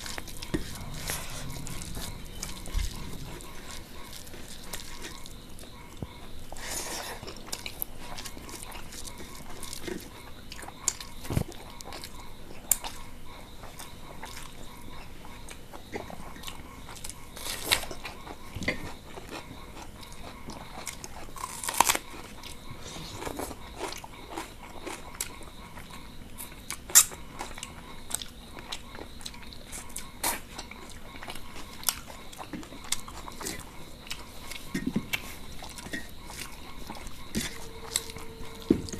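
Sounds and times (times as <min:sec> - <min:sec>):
close chewing and biting: 0:00.0 - 0:38.9.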